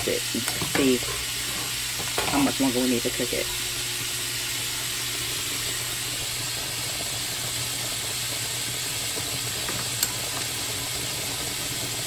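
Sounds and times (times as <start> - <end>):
chicken frying in oil: 0.0 - 12.0
pot boiling: 0.0 - 12.0.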